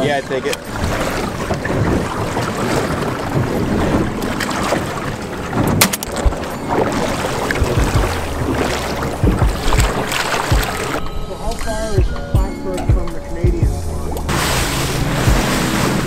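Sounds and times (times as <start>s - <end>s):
boat motor humming: 0.0s - 16.0s
water rushing against hull: 0.0s - 16.0s
wind on microphone: 0.7s - 11.0s, 12.0s - 16.0s.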